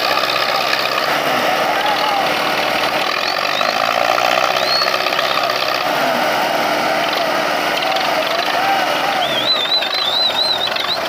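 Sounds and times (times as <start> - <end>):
tractor diesel engines straining: 0.0 - 11.0.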